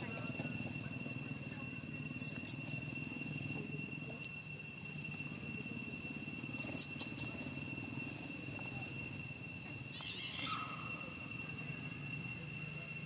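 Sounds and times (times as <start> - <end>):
high-pitched insect drone: 0.0 - 13.0
low steady hum: 0.0 - 13.0.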